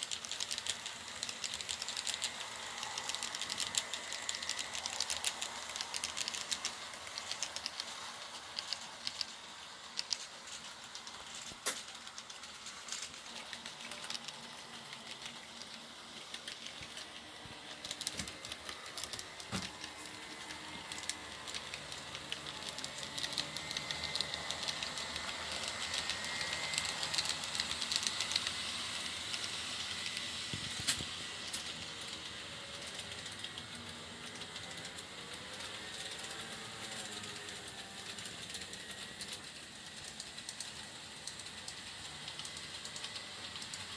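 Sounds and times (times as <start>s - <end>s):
model train rolling rattle: 0.0s - 43.9s
wheels clicking over rail joints: 0.0s - 43.9s.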